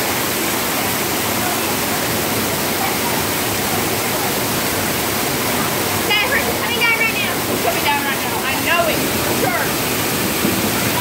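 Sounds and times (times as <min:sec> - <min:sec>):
fountain water splashing into pool: 0:00.0 - 0:11.0.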